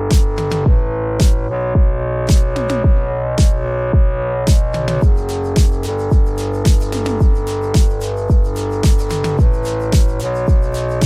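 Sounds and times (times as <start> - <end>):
ticking hi-hats: 0.1 - 3.6, 4.5 - 11.0
kick drum beat: 0.1 - 10.9.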